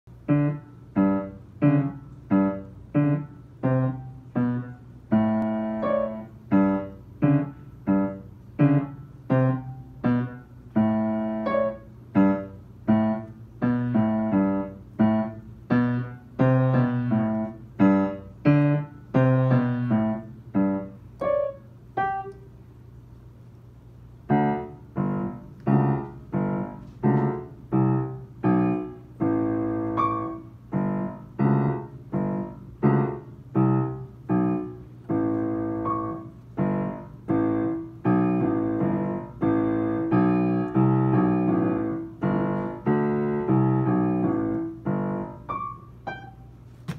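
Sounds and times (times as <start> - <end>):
slow piano notes: 0.1 - 46.8.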